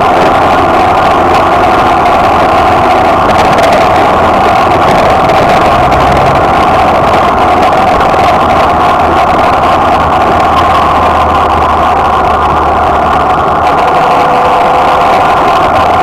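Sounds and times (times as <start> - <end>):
wind and road noise: 0.0 - 16.0
motorcycle engine running: 1.0 - 16.0.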